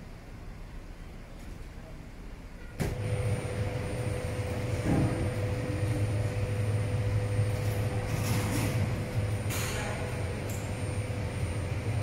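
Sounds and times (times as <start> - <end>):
mechanical drone with high whine: 0.0 - 12.0.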